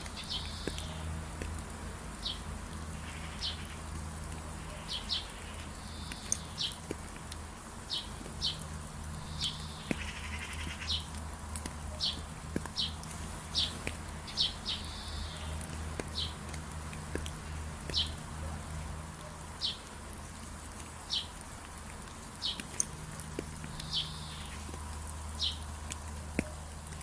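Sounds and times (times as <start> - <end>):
low background hiss and hum: 0.0 - 27.0
songbird chirping: 0.0 - 27.0.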